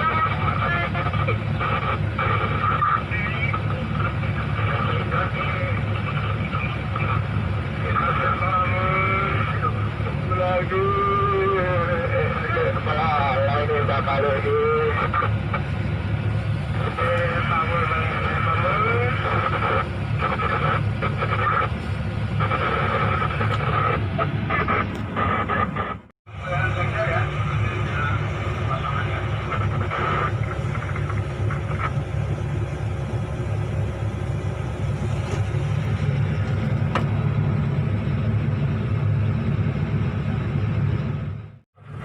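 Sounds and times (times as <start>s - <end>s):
indistinct voices talking: 0.0s - 37.8s
excavator diesel engine running: 0.0s - 42.0s.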